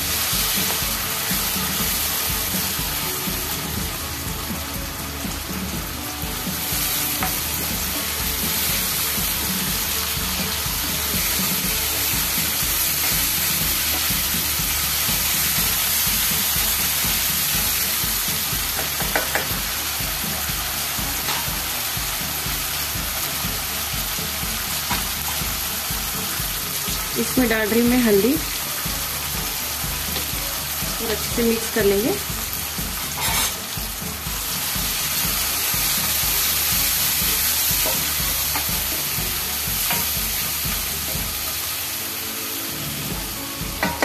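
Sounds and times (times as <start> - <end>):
food sizzling in oil: 0.0 - 44.0.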